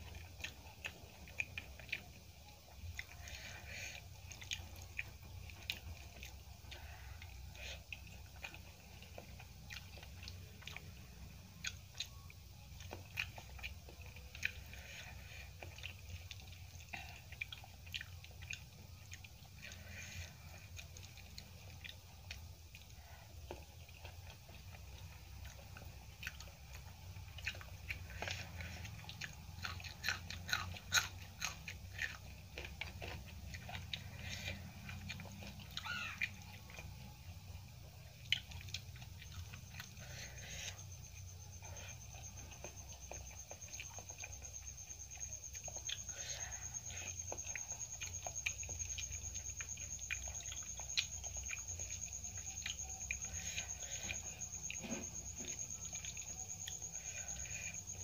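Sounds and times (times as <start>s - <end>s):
chewing and crunching: 0.0s - 58.0s
steady low hum: 0.0s - 58.0s.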